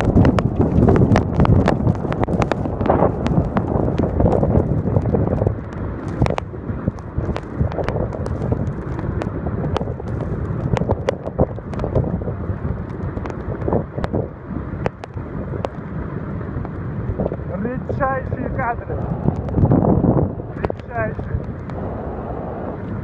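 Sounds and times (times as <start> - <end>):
avalanche and waterfall rushing: 0.0 - 23.0
wind on microphone: 0.0 - 23.0.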